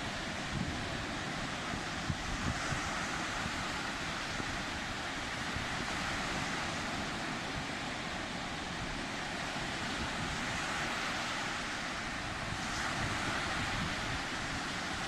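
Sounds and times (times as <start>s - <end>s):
sea surf breaking: 0.0s - 15.0s
wind on microphone: 0.0s - 15.0s.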